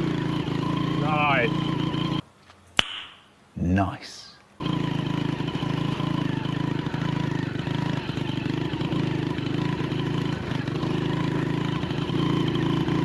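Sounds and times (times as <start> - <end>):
motorcycle engine running: 0.0 - 2.2, 4.6 - 13.0.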